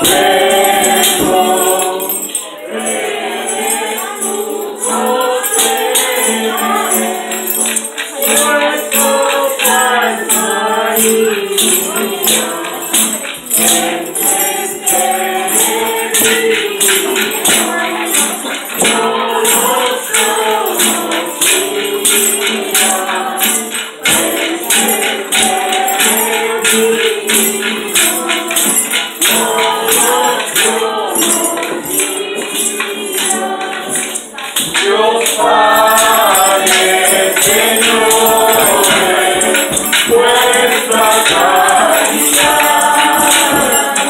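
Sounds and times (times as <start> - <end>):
acoustic guitar: 0.0 - 44.0
group singing: 0.0 - 44.0
shaken percussion: 0.0 - 44.0.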